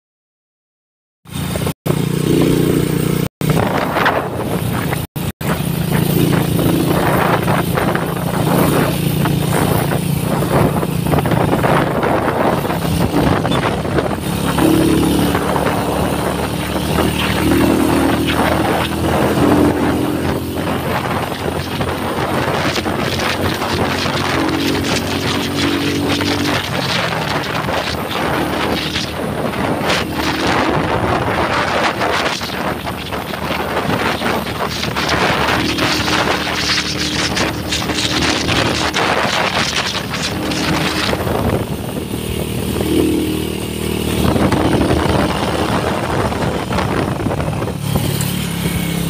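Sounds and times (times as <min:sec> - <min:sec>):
small motorcycle engine running: 0:01.3 - 0:49.0
wind and road noise: 0:01.3 - 0:49.0.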